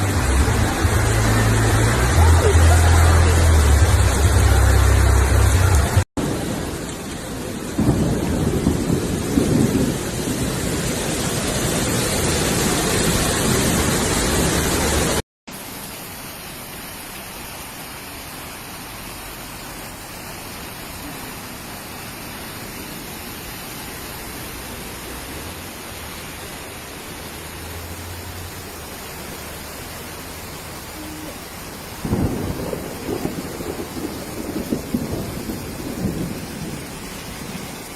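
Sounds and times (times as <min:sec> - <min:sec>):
heavy rain pouring: 0:00.0 - 0:37.9.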